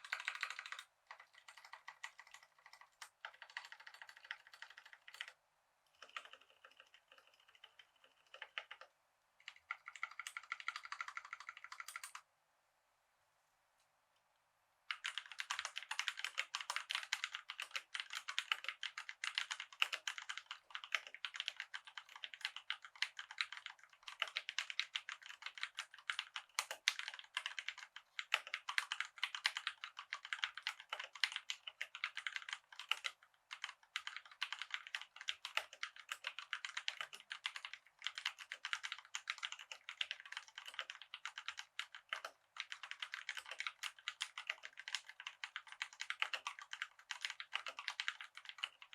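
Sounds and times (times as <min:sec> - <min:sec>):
mechanical keyboard typing: 0:00.0 - 0:12.2, 0:14.9 - 0:48.9.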